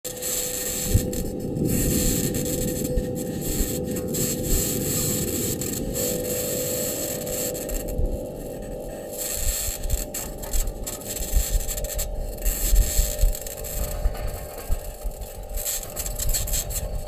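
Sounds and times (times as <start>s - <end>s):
constant low hum: 0.1s - 17.0s
higher hum: 0.1s - 17.0s
scraping rumbling noise: 0.4s - 17.0s.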